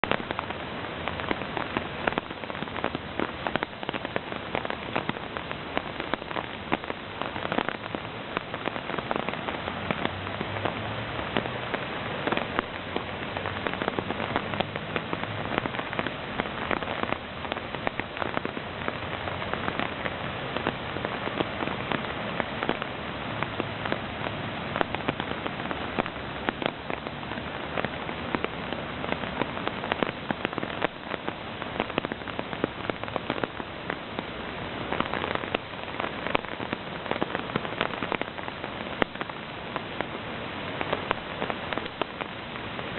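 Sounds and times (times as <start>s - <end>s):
creek water rushing: 0.0s - 42.9s.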